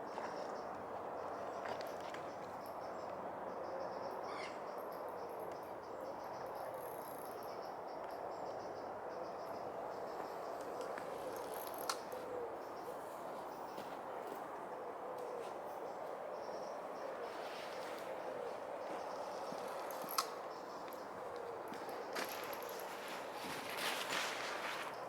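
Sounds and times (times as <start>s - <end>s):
crickets chirping: 0.1s - 25.0s.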